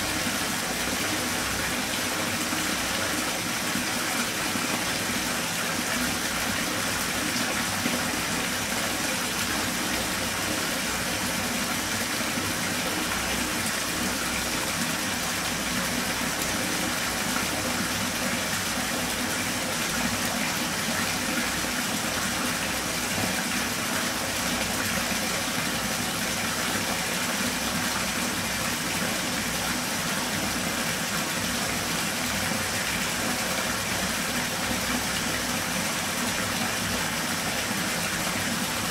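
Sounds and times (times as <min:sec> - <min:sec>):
water pouring into bathtub: 0:00.0 - 0:38.9.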